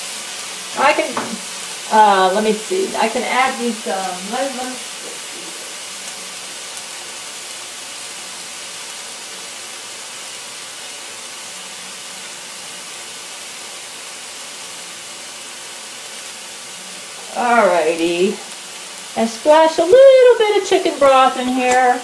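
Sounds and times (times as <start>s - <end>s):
chicken sizzling in a skillet: 0.0s - 22.0s.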